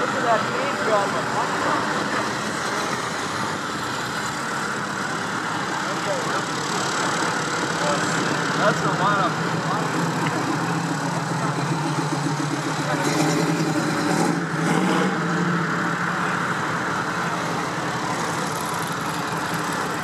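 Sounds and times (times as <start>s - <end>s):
cars driving slowly past: 0.0s - 20.0s.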